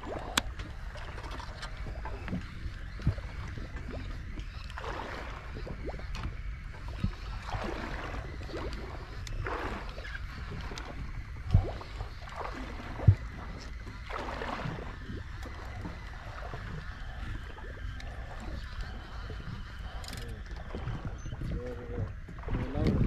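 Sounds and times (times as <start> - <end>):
steady low rumble: 0.0 - 23.0
waves sloshing against boat hull: 0.0 - 23.0.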